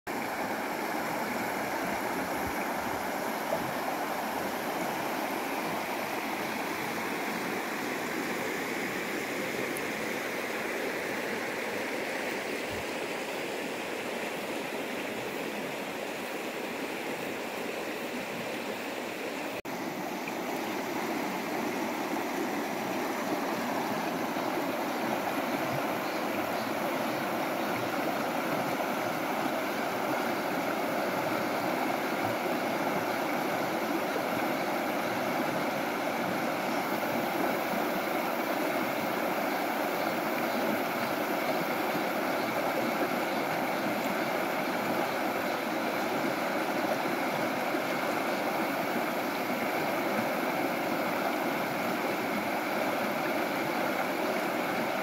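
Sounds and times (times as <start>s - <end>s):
stream rushing over rocks: 0.1s - 55.0s.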